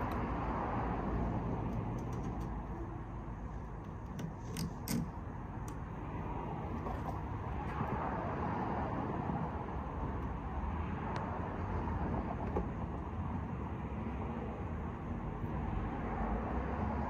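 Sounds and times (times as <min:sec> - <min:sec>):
low vehicle-like rumble: 0:00.0 - 0:17.0.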